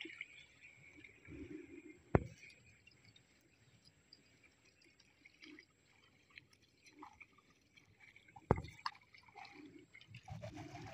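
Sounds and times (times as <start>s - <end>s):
water dripping and trickling: 0.0s - 10.9s.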